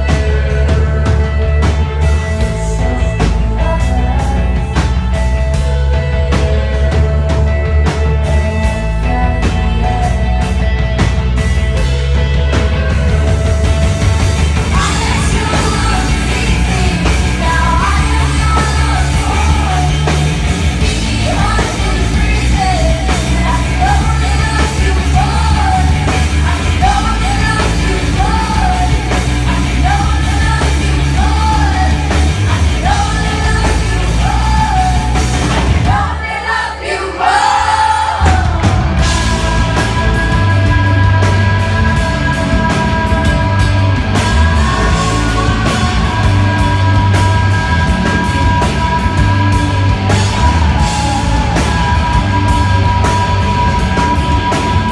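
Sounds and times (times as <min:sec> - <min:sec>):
woman singing: 0:00.0 - 0:07.6, 0:08.3 - 0:10.7, 0:14.4 - 0:54.9
distorted electric guitars: 0:00.0 - 0:36.6, 0:37.5 - 0:54.9
bass guitar: 0:00.0 - 0:54.9
drums: 0:00.0 - 0:54.9.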